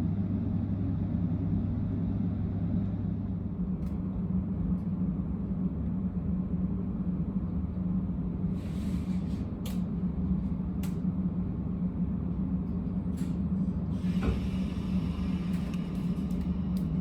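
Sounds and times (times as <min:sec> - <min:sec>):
train motors and wheels rumbling: 0:00.0 - 0:17.0.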